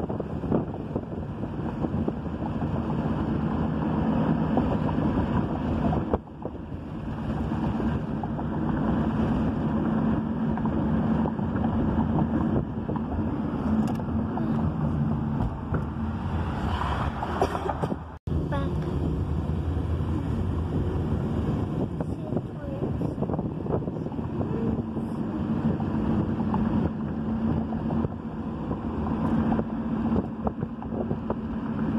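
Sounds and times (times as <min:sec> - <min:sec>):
car road and wind noise: 0:00.0 - 0:31.9.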